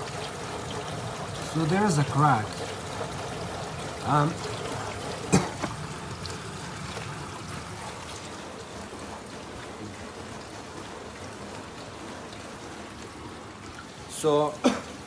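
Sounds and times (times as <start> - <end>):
dishwasher water rushing and splashing: 0.0 - 15.0.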